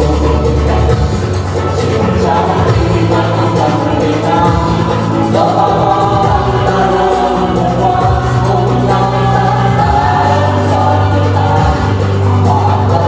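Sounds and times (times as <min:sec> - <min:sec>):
backing music with bass notes: 0:00.0 - 0:13.0
women singing into microphones: 0:00.0 - 0:13.0.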